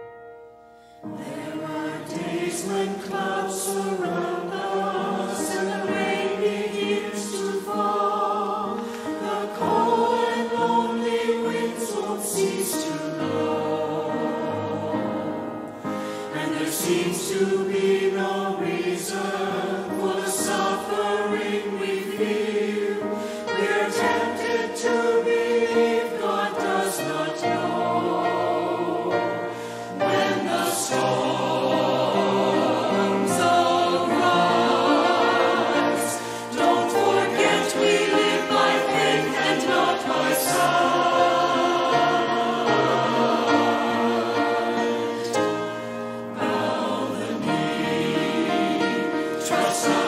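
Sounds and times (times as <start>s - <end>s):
choir singing: 1.0s - 50.0s.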